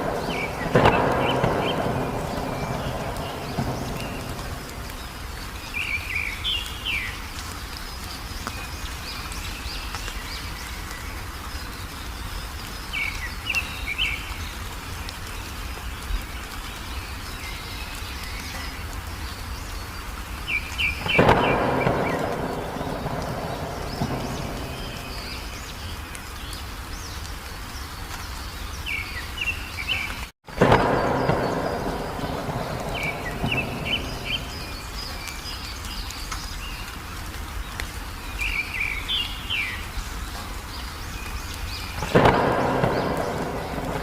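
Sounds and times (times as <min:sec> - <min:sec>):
background hiss: 0:00.0 - 0:44.0
songbird chirping: 0:00.0 - 0:44.0.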